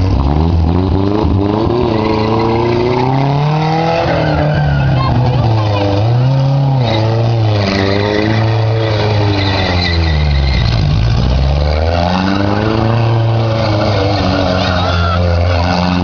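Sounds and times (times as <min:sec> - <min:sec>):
racing engine revving: 0:00.0 - 0:16.0.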